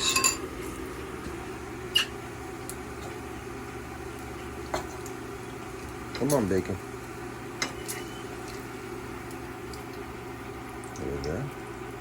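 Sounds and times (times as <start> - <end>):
cooling fans humming: 0.0 - 12.0.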